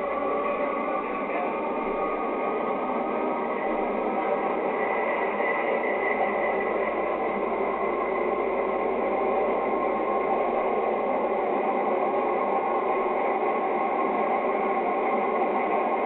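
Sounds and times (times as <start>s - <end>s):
metro train running whir: 0.0s - 16.0s.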